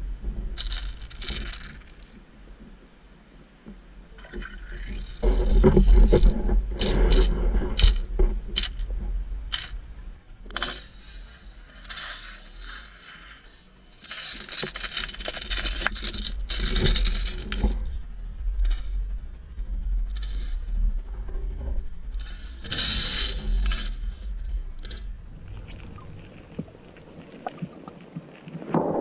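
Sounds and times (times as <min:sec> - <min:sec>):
underwater rumble of moving water: 0:00.0 - 0:12.6, 0:14.7 - 0:29.0
sharp clicks and scraping: 0:00.2 - 0:02.2, 0:03.6 - 0:29.0.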